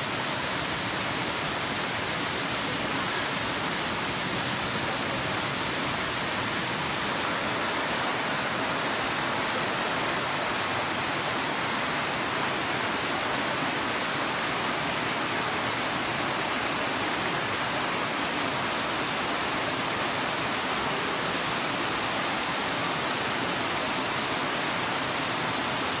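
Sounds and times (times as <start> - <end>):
falling water rushing: 0.0 - 26.0.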